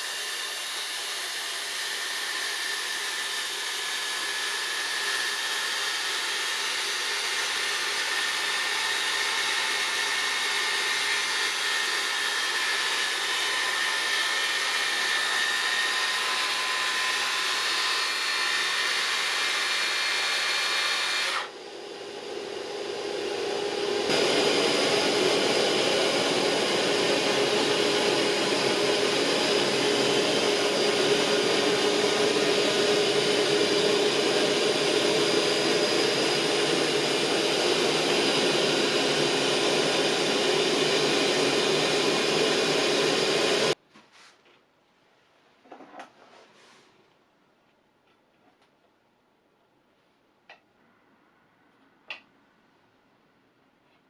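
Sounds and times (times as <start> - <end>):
power tool motor whining: 0.0 - 43.8.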